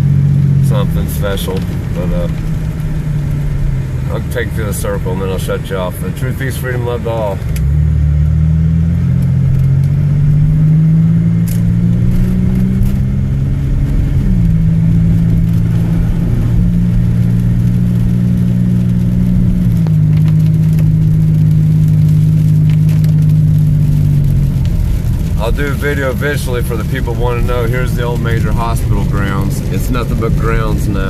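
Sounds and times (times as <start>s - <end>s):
car engine and road drone: 0.0s - 31.0s.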